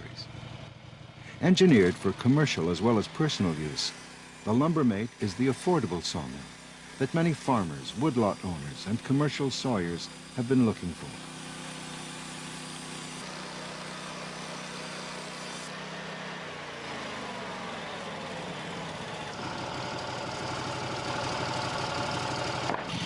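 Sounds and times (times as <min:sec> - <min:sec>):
sawmill engine running: 0:00.0 - 0:23.0.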